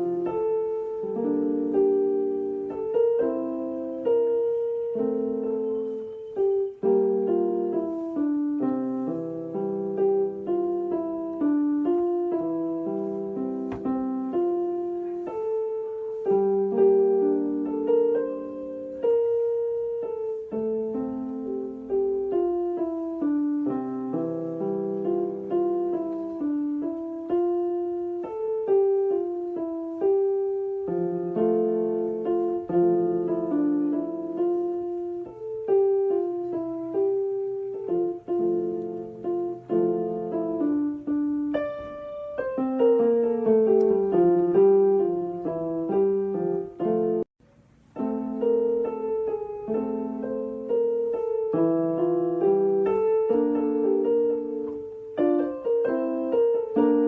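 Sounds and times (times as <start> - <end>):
gentle piano music: 0.0 - 57.0.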